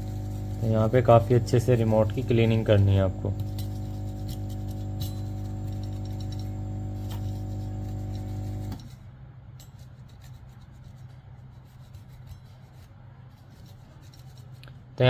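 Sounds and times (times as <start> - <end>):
cloth wiping circuit board: 0.0 - 9.0, 9.7 - 15.0
light scratching: 0.0 - 15.0
low electrical hum: 0.0 - 15.0.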